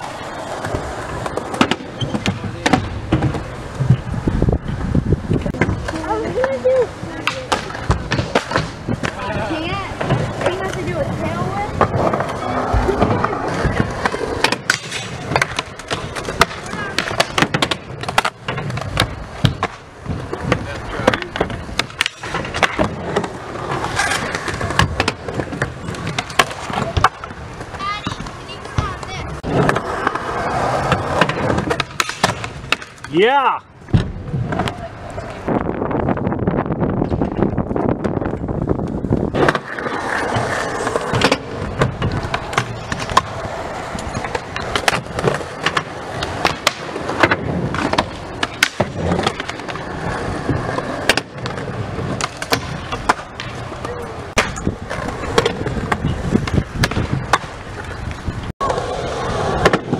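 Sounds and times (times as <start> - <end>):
skateboard clacks: 0.0 - 35.5, 37.0 - 59.9
skateboard wheels rolling on concrete: 0.0 - 59.9.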